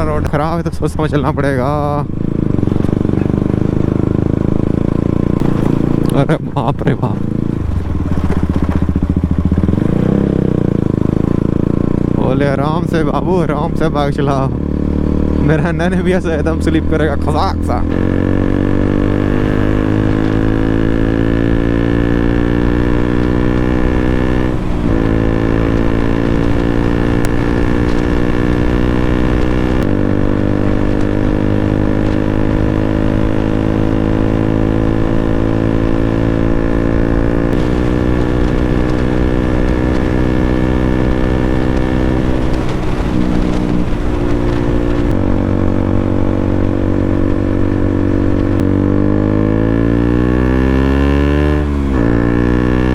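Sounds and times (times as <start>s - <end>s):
motorcycle engine under load: 0.0s - 52.9s.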